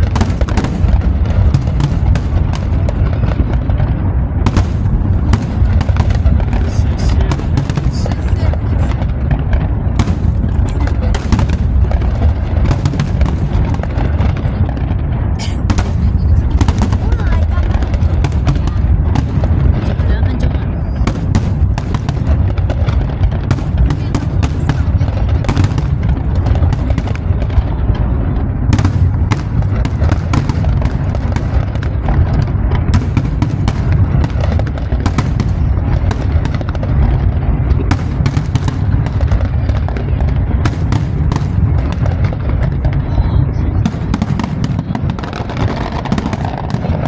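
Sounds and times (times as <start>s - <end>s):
deep rumble: 0.0s - 47.0s
fireworks bangs and crackles: 0.0s - 47.0s.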